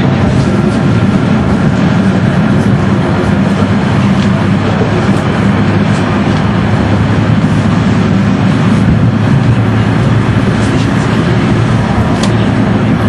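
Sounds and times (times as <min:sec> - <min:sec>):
streetcar wheels rumbling on rails: 0:00.0 - 0:13.0.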